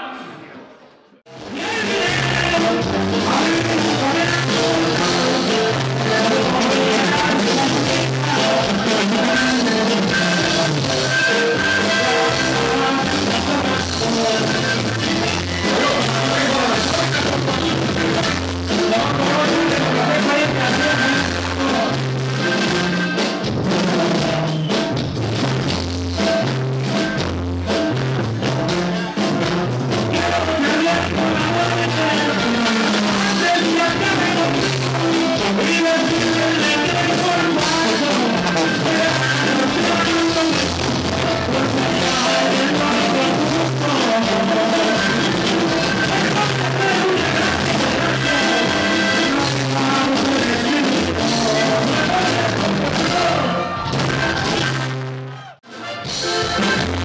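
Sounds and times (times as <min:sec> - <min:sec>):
man singing into a microphone: 0:01.3 - 0:24.6, 0:29.5 - 0:54.8
plucked bass line: 0:01.3 - 0:55.6
accordion: 0:01.3 - 0:57.0.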